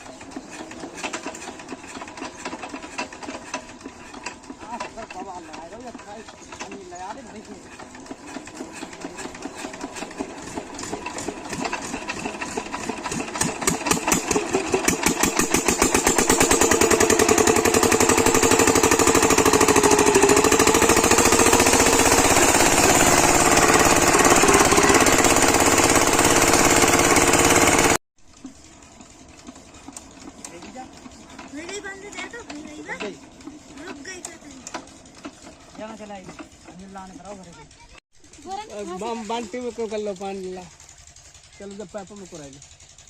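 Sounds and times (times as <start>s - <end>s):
diesel engine starting and running: 0.0s - 43.0s.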